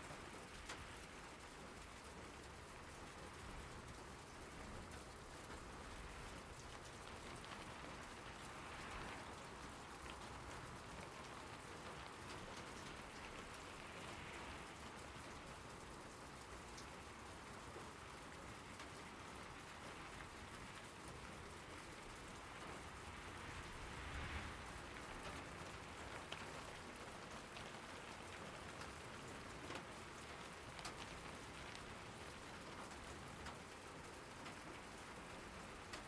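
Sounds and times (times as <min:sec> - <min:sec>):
faint rain falling: 0:00.0 - 0:36.0.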